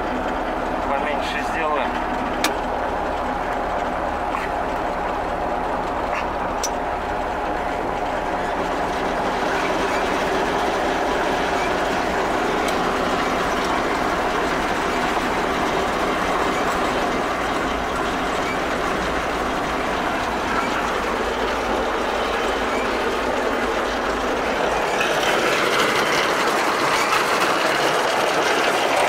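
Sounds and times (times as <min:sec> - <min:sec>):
combine harvester mechanical clatter: 0:00.0 - 0:29.0.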